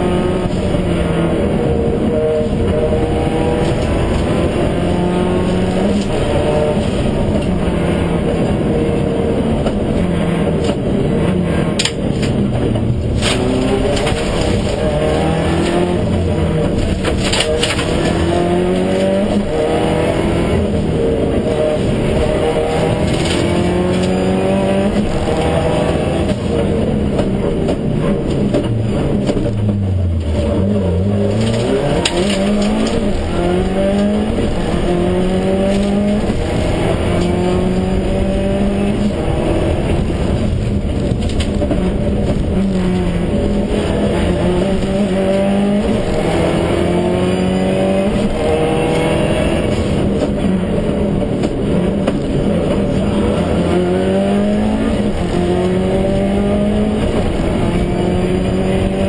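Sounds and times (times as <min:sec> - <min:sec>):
car engine driven hard: 0:00.0 - 0:59.0.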